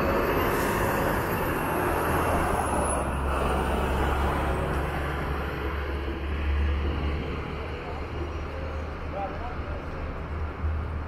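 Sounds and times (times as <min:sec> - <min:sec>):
large vehicle rumbling past: 0:00.0 - 0:11.0.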